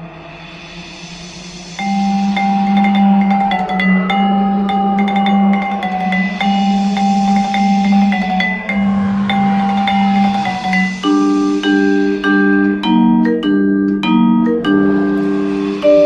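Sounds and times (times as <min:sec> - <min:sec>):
marimba-like mallet music: 0:01.7 - 0:16.0.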